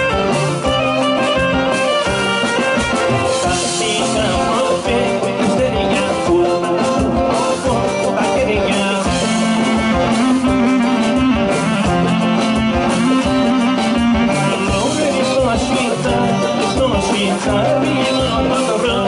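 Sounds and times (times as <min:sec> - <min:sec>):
drum kit beat: 0:00.0 - 0:19.0
live band playing dance music: 0:00.0 - 0:19.0
plucked-string melody: 0:00.0 - 0:19.0.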